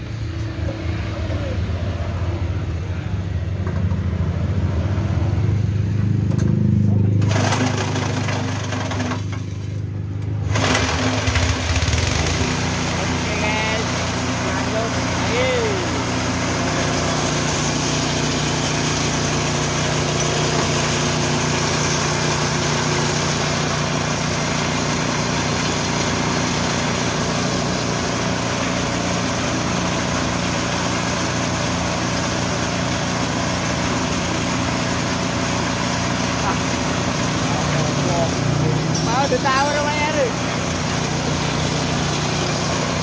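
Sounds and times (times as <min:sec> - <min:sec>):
small petrol engine running: 0:06.2 - 0:43.0.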